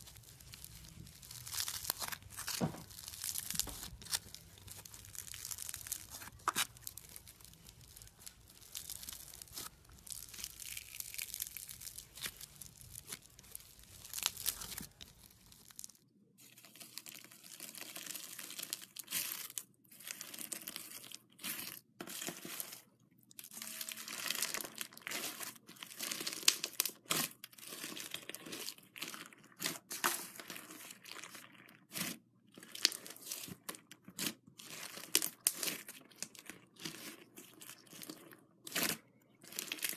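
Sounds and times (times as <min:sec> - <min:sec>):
sticky slime crackling and popping: 0:00.0 - 0:16.0, 0:23.4 - 0:39.9
foam bead slime crunching: 0:00.0 - 0:39.9.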